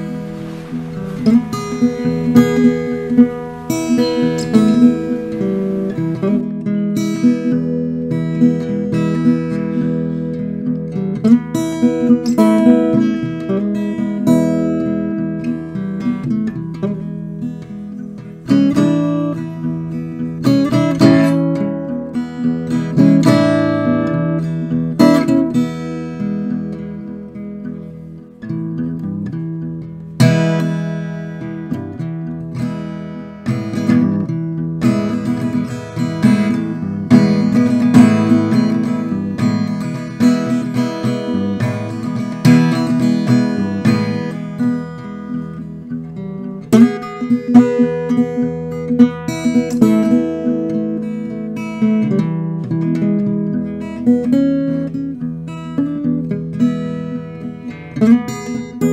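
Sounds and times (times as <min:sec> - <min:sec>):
acoustic guitar strummed chords: 0:00.0 - 0:58.9.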